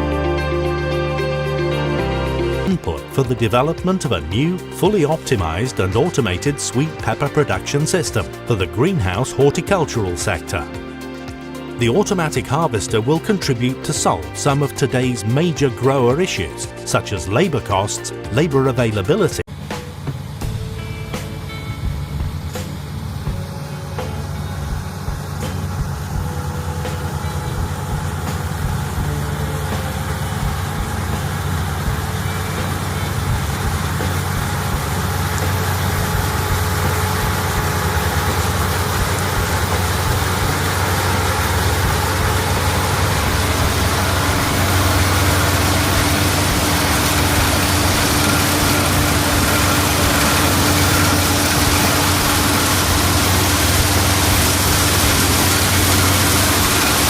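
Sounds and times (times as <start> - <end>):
heavy engine humming: 0.0 - 57.0.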